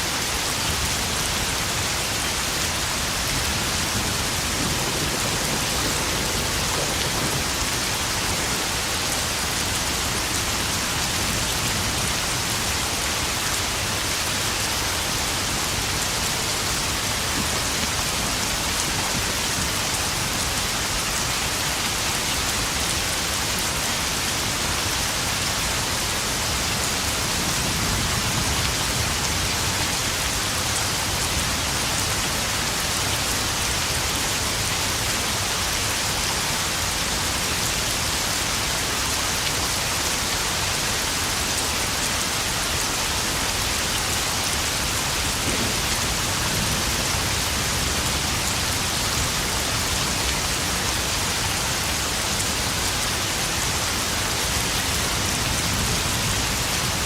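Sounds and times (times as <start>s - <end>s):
heavy rain pattering on puddles: 0.0s - 57.0s.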